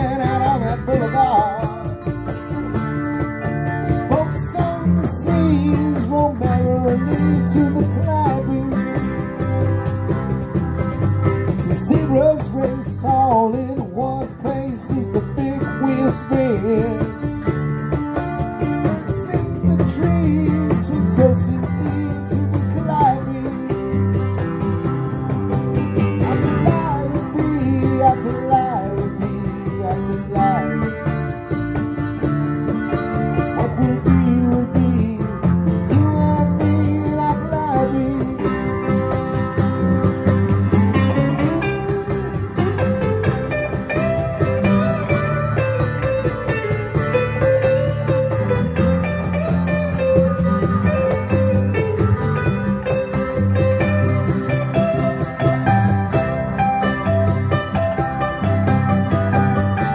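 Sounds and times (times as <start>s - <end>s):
bass guitar: 0.0s - 59.9s
cajon beat: 0.0s - 59.9s
electric guitar with bent notes: 0.0s - 59.9s
strummed acoustic guitar: 0.0s - 59.9s.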